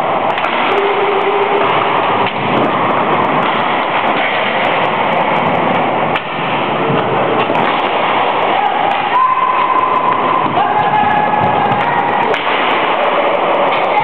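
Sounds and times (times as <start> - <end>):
skate wheels rolling on wood: 0.0 - 14.0.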